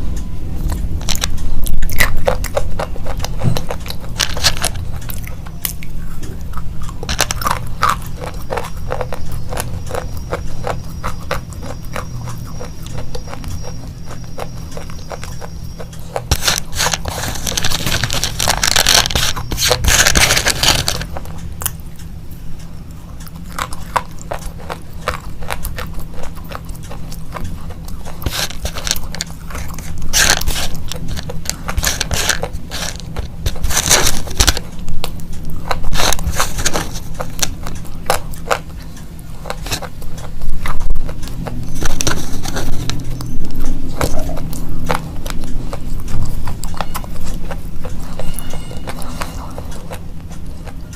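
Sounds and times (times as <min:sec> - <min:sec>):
slate pencils crunched by teeth: 0:01.0 - 0:21.8, 0:23.2 - 0:50.9.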